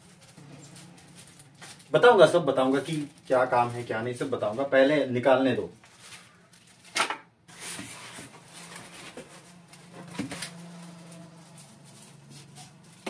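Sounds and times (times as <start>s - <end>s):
sharp plastic crinkle: 0.0s - 5.0s, 5.6s - 13.0s
plastic and cardboard rustling: 0.0s - 13.0s.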